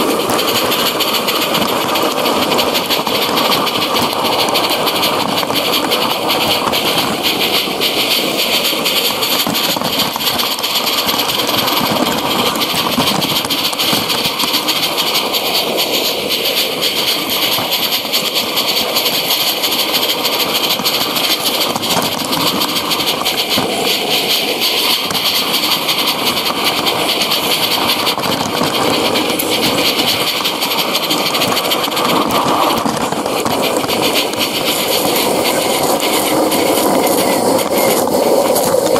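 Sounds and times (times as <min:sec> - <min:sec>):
steam hissing: 0:00.0 - 0:38.9
steam locomotive chuffing: 0:00.0 - 0:38.9.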